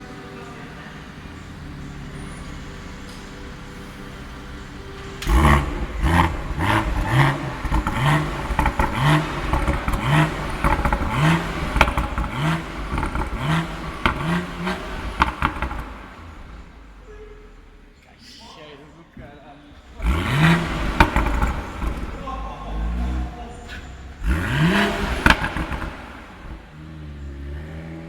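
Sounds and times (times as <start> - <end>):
car engine idling and revving: 0.0 - 18.1, 19.6 - 28.0
exhaust cracks: 0.0 - 18.2, 19.7 - 28.0.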